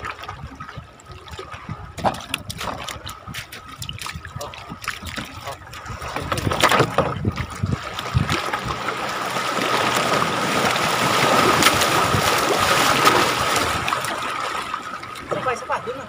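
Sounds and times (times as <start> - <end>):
water rushing along boat hull: 0.0 - 16.0.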